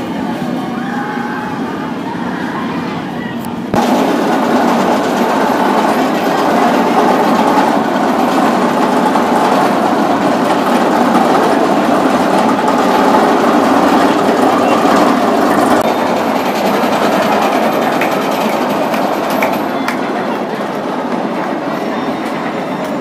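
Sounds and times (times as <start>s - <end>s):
roller coaster running on track: 0.0s - 23.0s.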